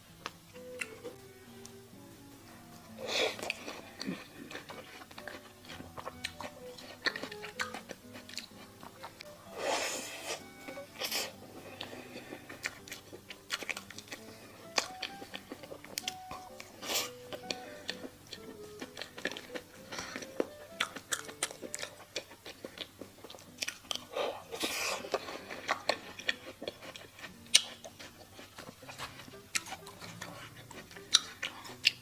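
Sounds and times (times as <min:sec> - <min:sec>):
crunchy chewing: 0:02.8 - 0:32.0
person biting and chewing: 0:03.0 - 0:32.0.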